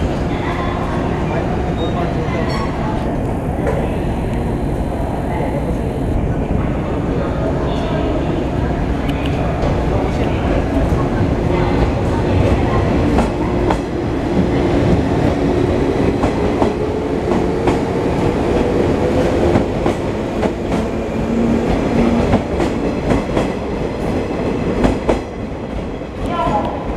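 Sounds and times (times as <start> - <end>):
train rumble: 0.0 - 26.9.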